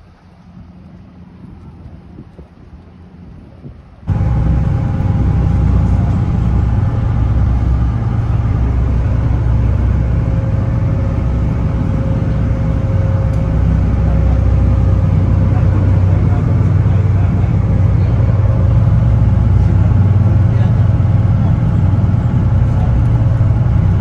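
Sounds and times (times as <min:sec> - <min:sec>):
diesel engine low rumble: 0:00.0 - 0:24.0
faint constant hums: 0:00.0 - 0:24.0.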